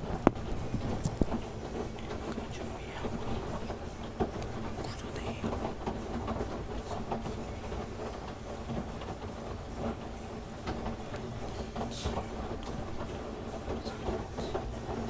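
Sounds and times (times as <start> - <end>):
washing machine motor and drum rumble: 0.0 - 15.0.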